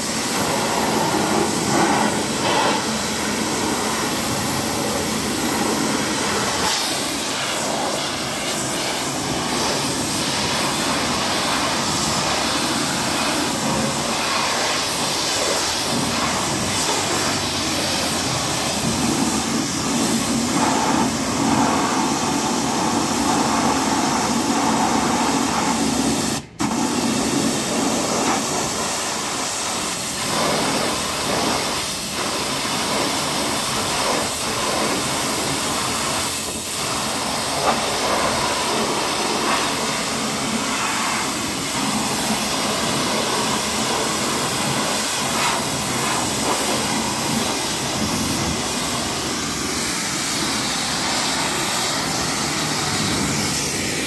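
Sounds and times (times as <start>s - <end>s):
pressure washer spray hiss: 0.0s - 54.0s
pump motor running: 0.0s - 54.0s.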